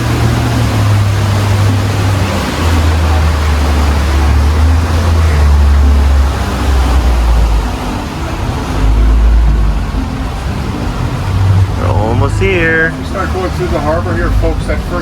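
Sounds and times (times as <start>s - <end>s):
boat motor droning: 0.0s - 15.0s
wind and water rushing: 0.0s - 15.0s.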